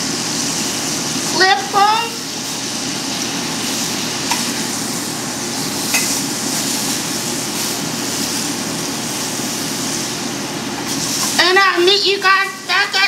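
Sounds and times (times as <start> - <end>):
frog legs sizzling in a pan: 0.0 - 13.0.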